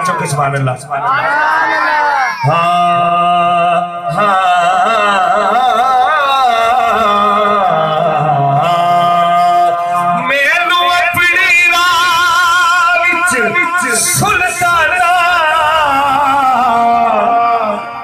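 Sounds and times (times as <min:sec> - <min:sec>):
man singing into a microphone: 0:02.0 - 0:18.0.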